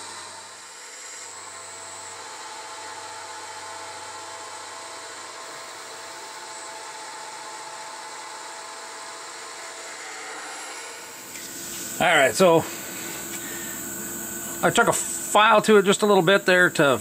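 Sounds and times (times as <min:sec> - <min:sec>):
metal lathe whining: 0:00.0 - 0:17.0.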